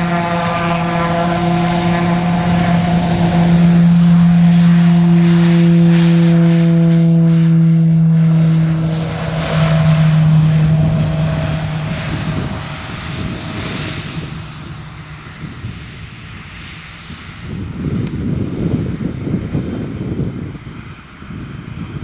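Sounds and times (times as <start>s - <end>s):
turboprop engines at takeoff power: 0.0s - 22.0s
wind buffeting microphone: 0.0s - 22.0s.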